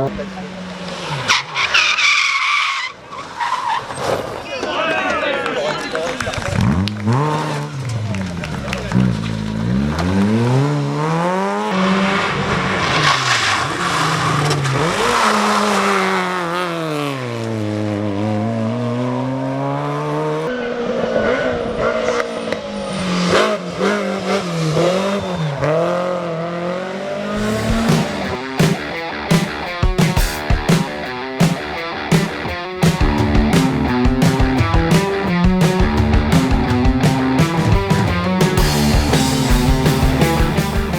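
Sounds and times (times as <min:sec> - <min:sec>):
rally car engines revving: 0:00.0 - 0:04.4, 0:06.2 - 0:40.9.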